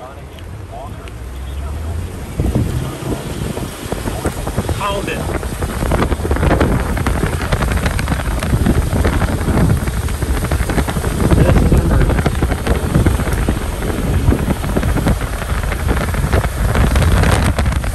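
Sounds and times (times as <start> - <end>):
heavy low rumble: 0.0 - 17.9
strong wind buffeting microphone: 0.0 - 17.9.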